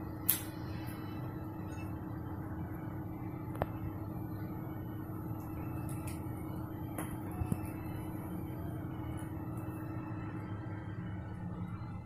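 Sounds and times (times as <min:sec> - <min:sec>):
room noise hum: 0:00.0 - 0:12.0.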